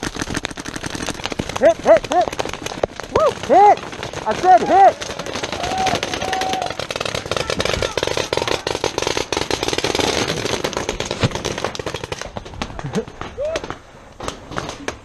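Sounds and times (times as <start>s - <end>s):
paintball guns firing: 0.0s - 15.0s.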